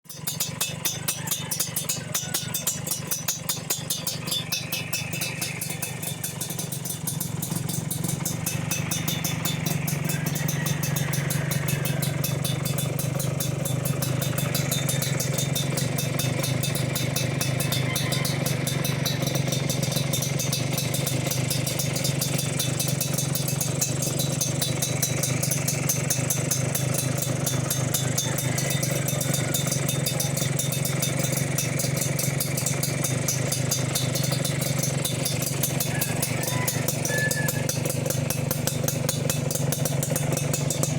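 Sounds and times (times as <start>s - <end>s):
two-stroke engine idling: 0.0s - 40.9s.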